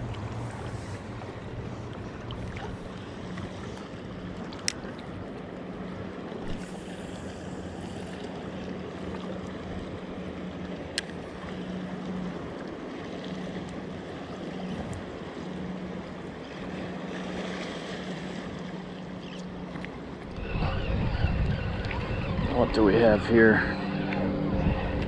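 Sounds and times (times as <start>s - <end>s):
small waves washing on shore: 0.0s - 25.0s.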